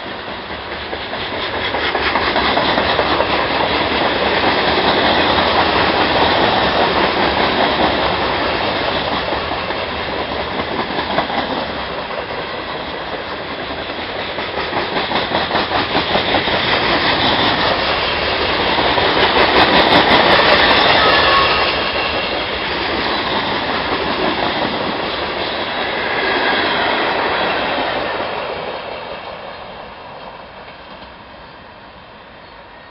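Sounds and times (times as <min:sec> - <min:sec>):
train wheels clacking over rail joints: 0:00.0 - 0:31.2.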